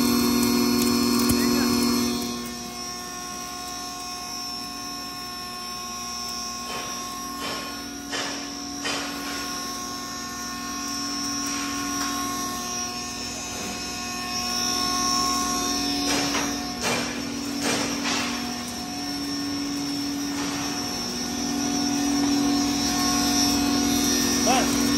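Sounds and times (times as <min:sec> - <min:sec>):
grain grinder whining: 0:00.0 - 0:24.9.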